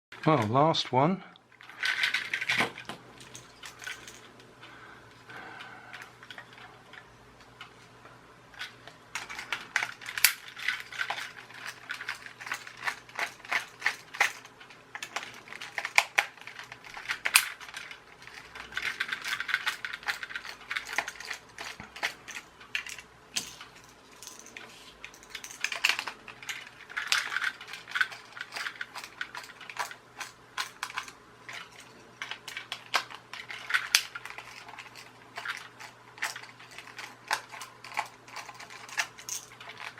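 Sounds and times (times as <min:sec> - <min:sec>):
plastic and metal parts rattling: 0:01.6 - 0:04.3, 0:08.5 - 0:39.9.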